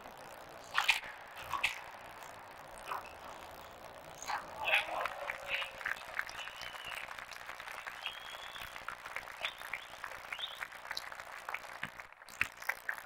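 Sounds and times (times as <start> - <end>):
audience applauding: 1.5 - 13.0.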